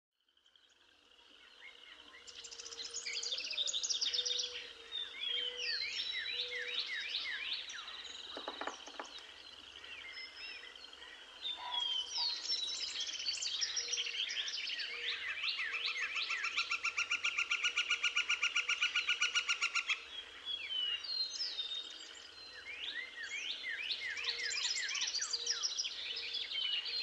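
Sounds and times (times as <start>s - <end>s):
songbirds singing and chirping: 0.2s - 27.0s.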